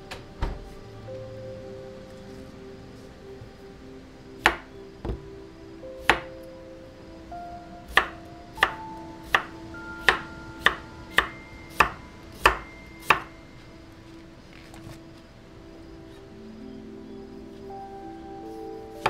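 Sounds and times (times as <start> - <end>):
soft background music: 0.0 - 19.0.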